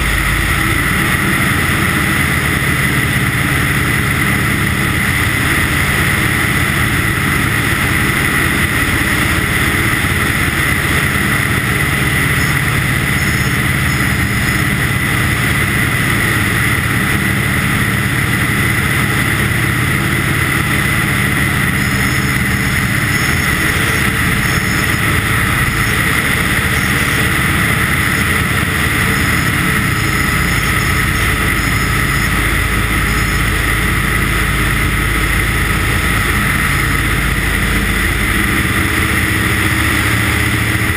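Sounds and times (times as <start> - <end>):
light aircraft engine: 0.0 - 40.9.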